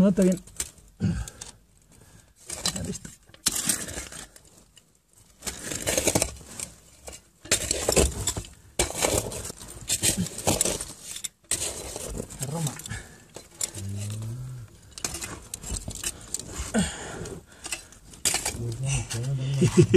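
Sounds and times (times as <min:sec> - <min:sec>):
sand and rubble scraping: 0:02.0 - 0:19.9.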